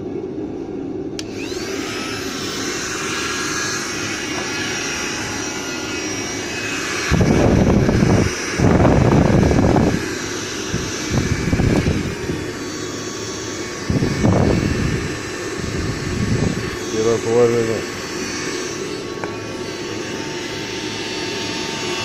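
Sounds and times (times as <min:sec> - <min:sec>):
hot air gun blower rushing: 0:01.2 - 0:22.0.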